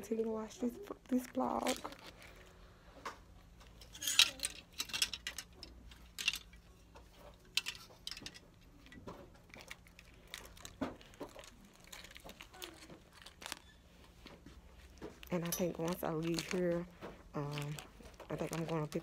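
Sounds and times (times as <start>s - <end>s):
handling clicks and rustles: 0.0s - 19.0s.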